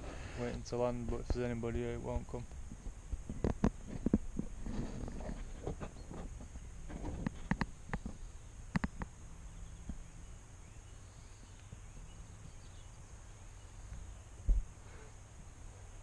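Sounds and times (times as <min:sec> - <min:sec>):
quiet rural background: 0:00.0 - 0:16.0.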